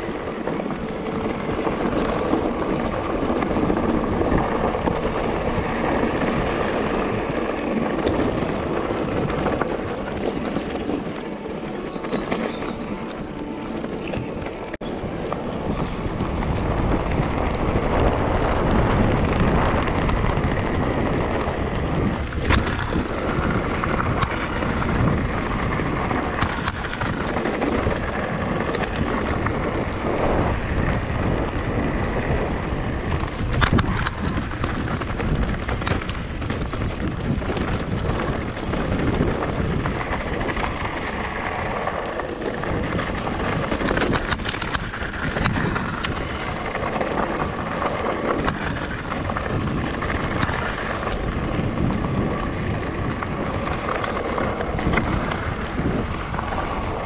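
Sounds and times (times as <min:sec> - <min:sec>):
bike rumbling over stony track: 0:00.0 - 0:57.0
stones and bike knocking: 0:00.0 - 0:57.0
wind buffeting microphone: 0:00.0 - 0:57.0.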